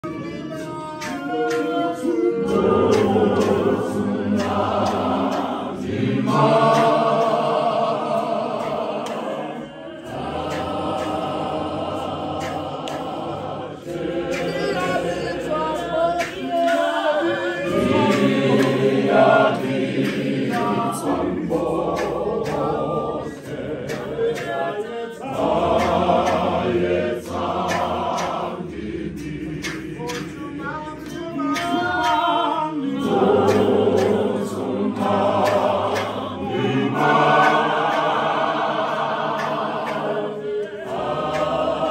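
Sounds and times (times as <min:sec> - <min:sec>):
congregation singing in harmony: 0:00.0 - 0:41.9.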